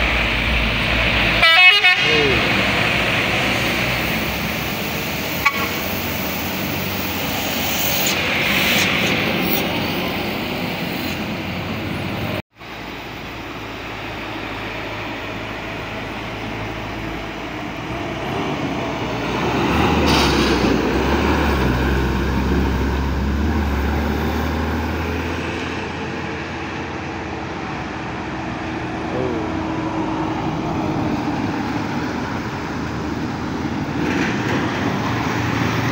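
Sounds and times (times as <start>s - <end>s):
heavy vehicle engine passing: 0.0s - 35.9s
road traffic: 0.0s - 35.9s.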